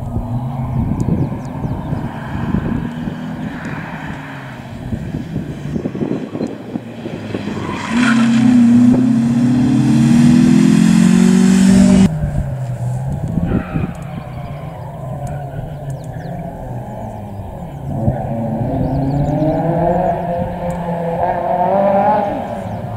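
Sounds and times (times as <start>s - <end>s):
rally car engine accelerating: 0.0s - 22.9s.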